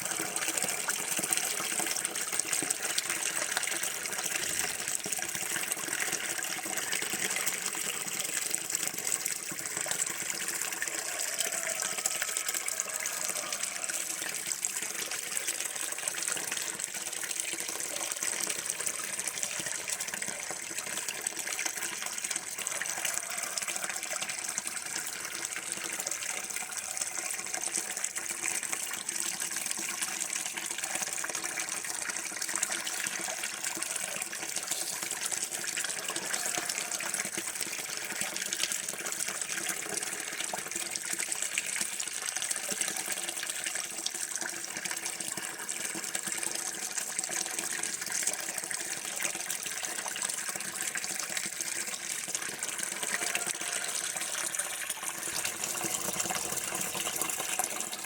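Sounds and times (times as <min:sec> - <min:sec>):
water running from a tap: 0:00.0 - 0:58.0.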